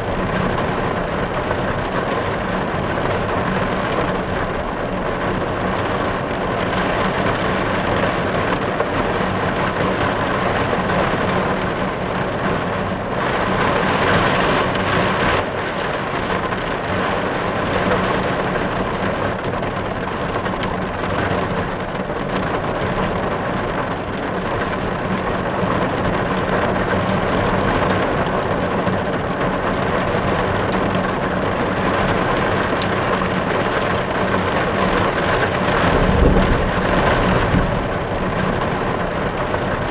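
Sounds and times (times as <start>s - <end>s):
heavy rain on a car roof: 0.0s - 39.9s.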